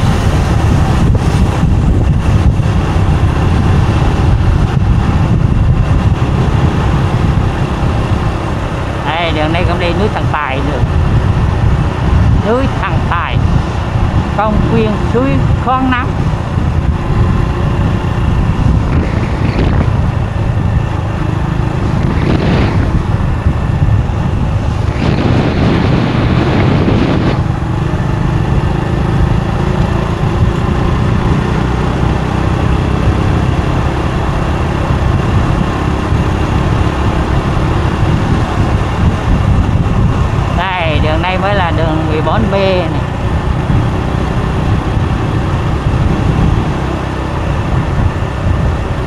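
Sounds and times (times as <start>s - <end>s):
motorbike engine: 0.0s - 49.0s
road noise: 0.0s - 49.0s
wind rush on microphone: 0.0s - 49.0s.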